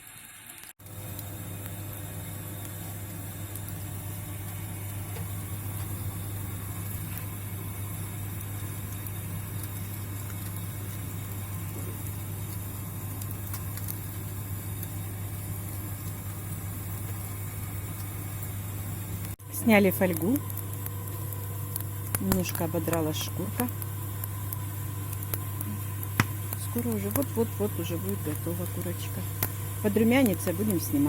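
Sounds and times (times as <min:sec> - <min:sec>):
wood fire crackling: 0:00.4 - 0:31.0.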